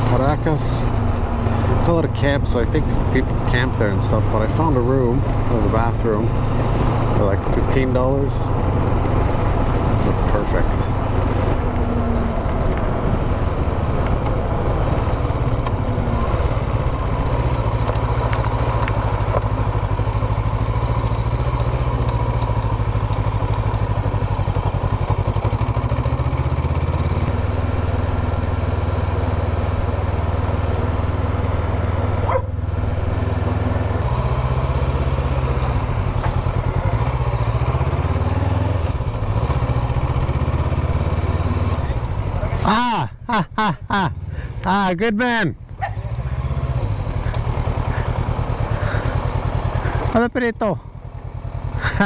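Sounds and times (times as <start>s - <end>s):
motorcycle engine running: 0.0s - 44.8s, 45.5s - 52.0s.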